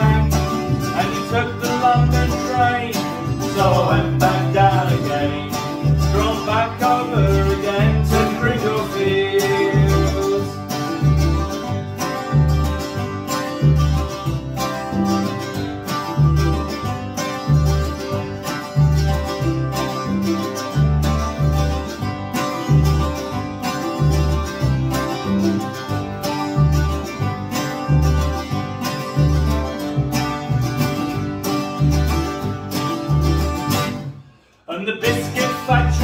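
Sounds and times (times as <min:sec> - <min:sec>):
acoustic guitar strumming: 0:00.0 - 0:36.0
double bass plucking: 0:00.0 - 0:36.0
mandolin strumming: 0:00.0 - 0:36.0.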